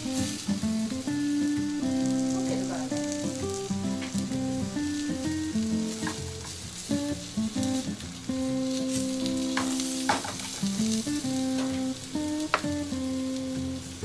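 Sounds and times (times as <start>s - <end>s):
background music with held notes: 0.0s - 14.0s
vegetables sizzling in oil: 0.0s - 14.0s.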